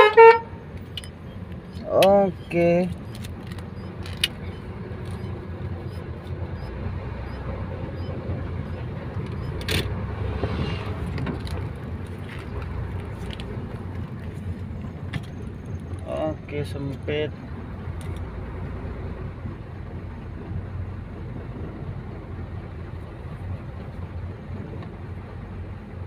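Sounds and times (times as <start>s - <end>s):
diesel truck engine rumbling: 0.0s - 26.0s.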